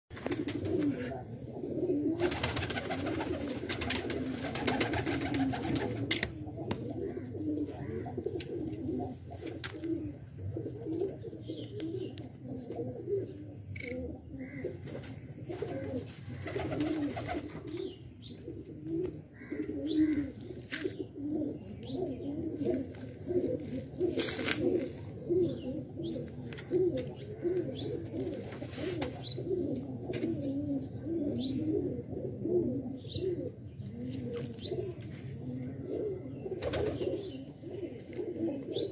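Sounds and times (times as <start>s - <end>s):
pigeons cooing: 0.2s - 38.9s.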